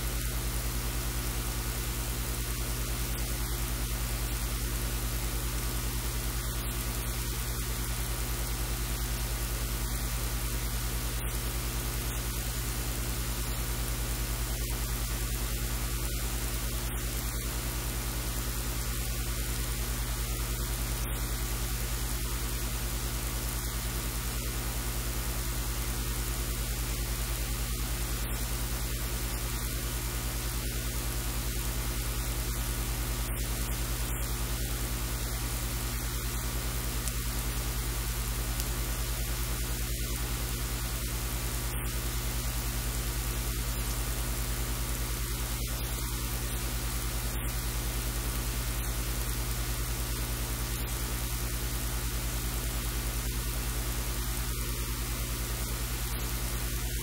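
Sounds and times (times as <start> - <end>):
low electrical hum: 0.0 - 57.0
static hiss: 0.0 - 57.0.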